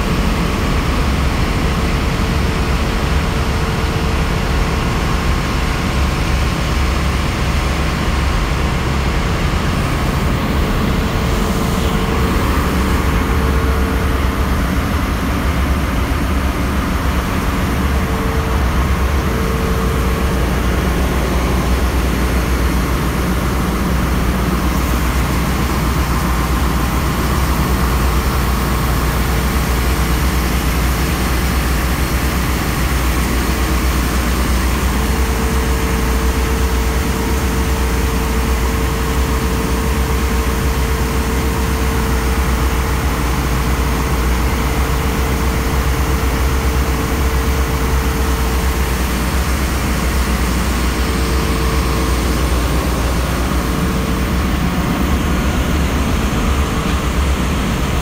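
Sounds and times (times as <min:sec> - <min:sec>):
engine room machinery rumble: 0:00.0 - 0:58.0.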